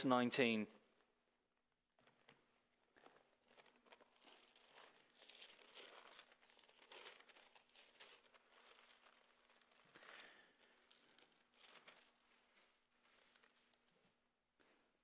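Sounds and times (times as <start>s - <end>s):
thin pages turning: 2.0s - 14.2s.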